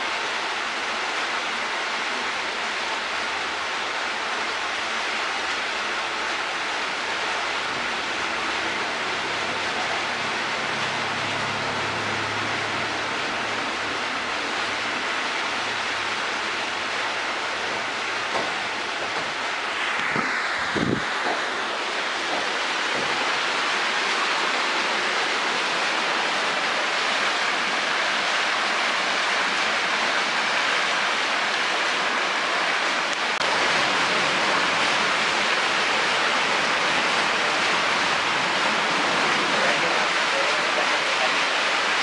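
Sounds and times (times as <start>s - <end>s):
fountain jets splashing: 0.0s - 42.0s.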